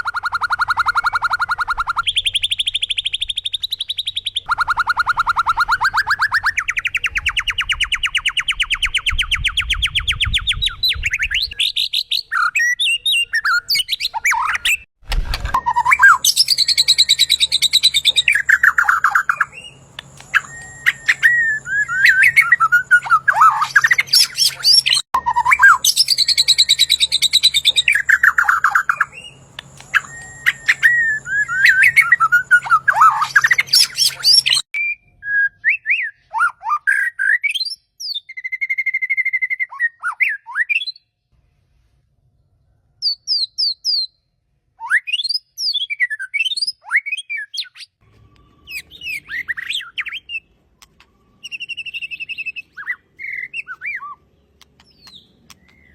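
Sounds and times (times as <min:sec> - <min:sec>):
songbird singing: 0:00.1 - 0:14.9, 0:15.5 - 0:39.6, 0:44.9 - 0:55.9.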